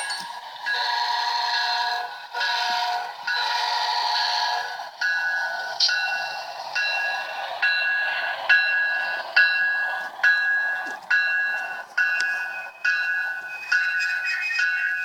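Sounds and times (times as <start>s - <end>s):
railroad warning bell ringing: 0.0s - 3.9s, 4.5s - 15.0s.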